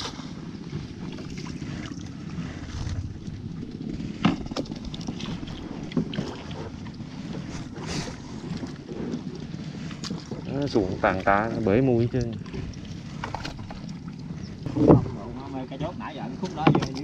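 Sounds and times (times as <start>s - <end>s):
water sloshing around boat: 0.0s - 17.0s
wind rumbling on microphone: 0.0s - 17.0s.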